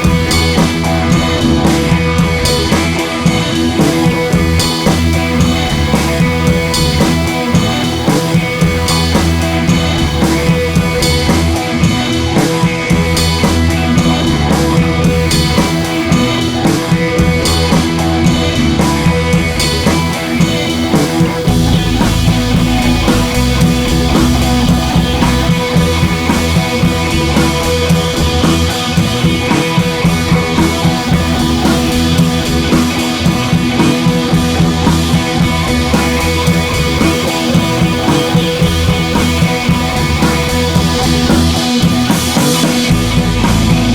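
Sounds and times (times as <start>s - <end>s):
rock music with drums and guitar: 0.0s - 43.9s.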